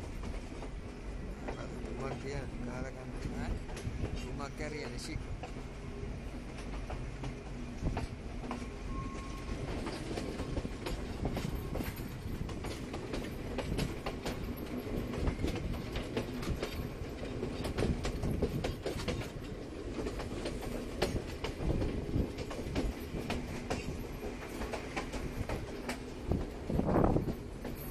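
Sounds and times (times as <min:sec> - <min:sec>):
train wheels rumbling: 0:00.0 - 0:27.9
clatter over the track: 0:01.4 - 0:05.6, 0:06.5 - 0:27.9.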